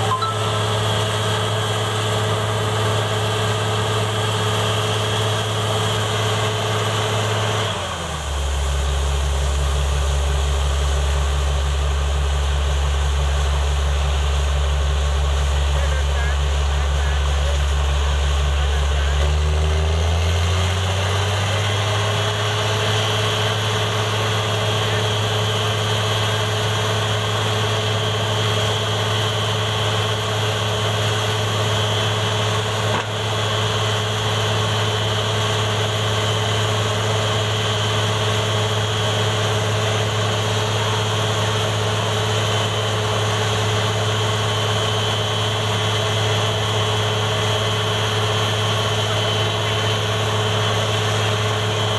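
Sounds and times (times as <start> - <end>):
drilling rig running under load: 0.0 - 51.9.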